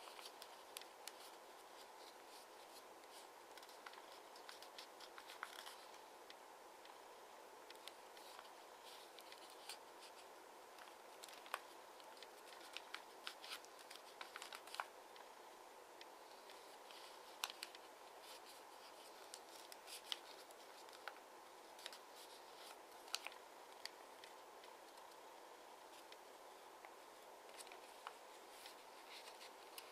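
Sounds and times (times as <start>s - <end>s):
paper crinkling and crackling: 0.0s - 7.0s, 7.7s - 15.4s, 16.0s - 25.2s, 25.8s - 29.9s
faint steady hiss: 0.0s - 29.9s.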